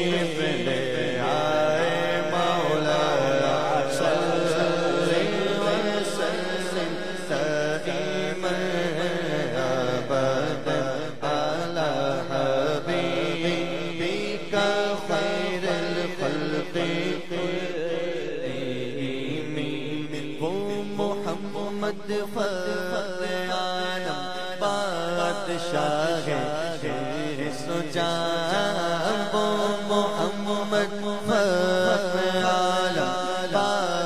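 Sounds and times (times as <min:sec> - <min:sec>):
man singing in chanting style: 0:00.0 - 0:34.0.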